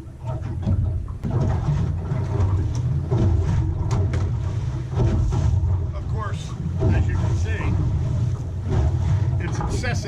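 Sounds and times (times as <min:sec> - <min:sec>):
wind rumbling on microphone: 0:00.0 - 0:10.0
sharp knocks: 0:00.3 - 0:10.0.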